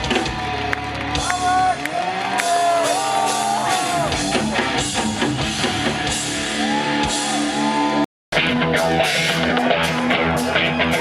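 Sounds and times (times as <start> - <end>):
rock band with electric guitar and drums: 0.0 - 11.0.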